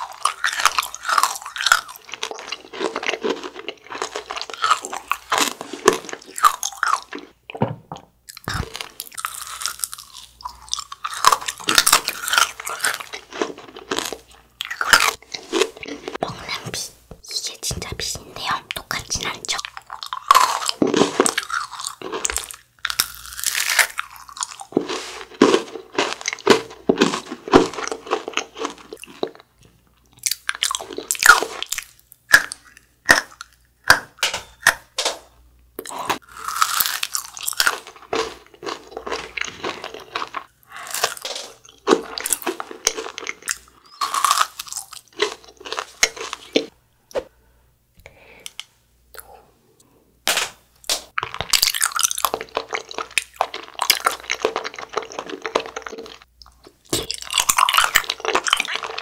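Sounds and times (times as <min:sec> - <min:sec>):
crunching and chewing: 0:00.0 - 0:07.4, 0:08.3 - 0:16.6, 0:19.2 - 0:34.9, 0:35.8 - 0:46.7, 0:51.1 - 0:59.0.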